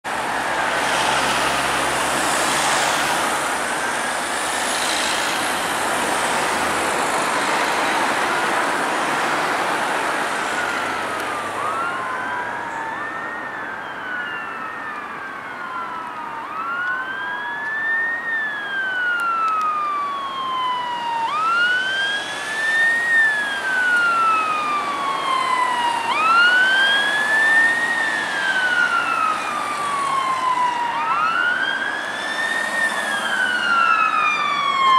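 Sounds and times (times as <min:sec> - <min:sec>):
road traffic passing: 0:00.0 - 0:34.9
wailing sirens: 0:00.0 - 0:34.9.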